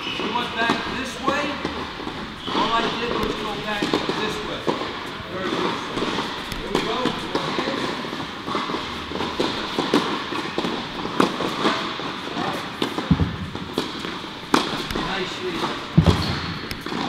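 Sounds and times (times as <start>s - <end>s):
tennis ball hit and bouncing: 1.6s - 11.9s, 12.8s - 17.0s.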